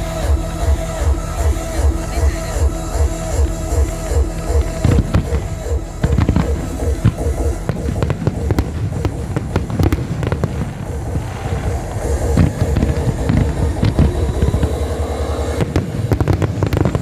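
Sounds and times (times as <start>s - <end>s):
music with a steady beat: 0.0s - 17.0s
fireworks bursting: 3.0s - 17.0s.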